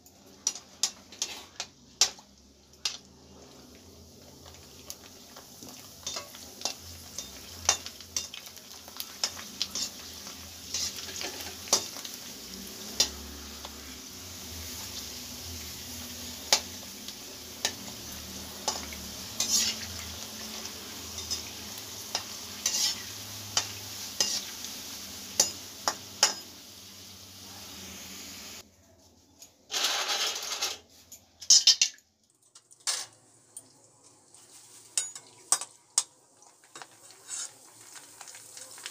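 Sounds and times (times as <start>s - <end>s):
food sizzling in hot oil: 0.0s - 28.6s, 32.6s - 38.9s.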